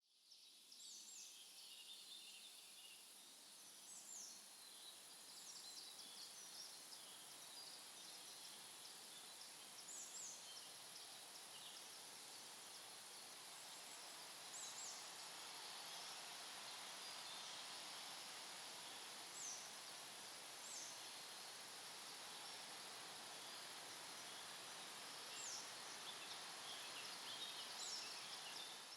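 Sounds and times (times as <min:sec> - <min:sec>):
thin high hiss: 0:00.8 - 0:28.9.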